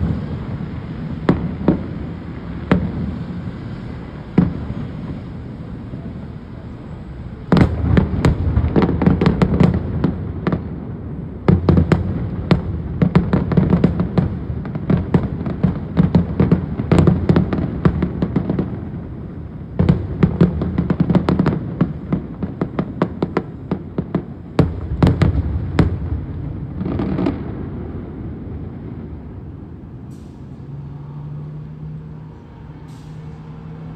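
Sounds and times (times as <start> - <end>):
fireworks bursting and crackling: 0.0 - 30.9.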